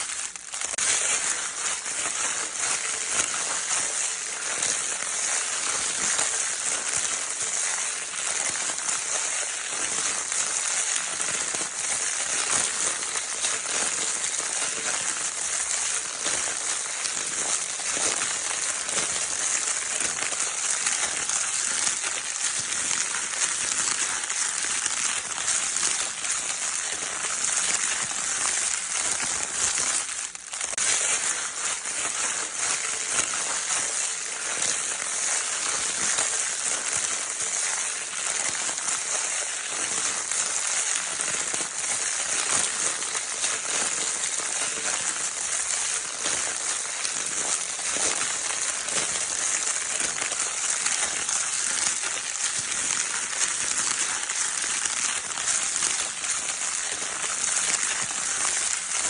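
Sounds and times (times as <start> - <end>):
crinkle toy paper scrunching: 0.0 - 59.0.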